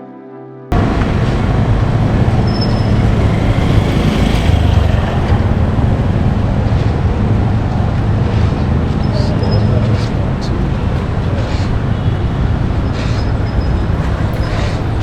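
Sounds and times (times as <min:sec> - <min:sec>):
city street traffic: 0:00.7 - 0:15.0.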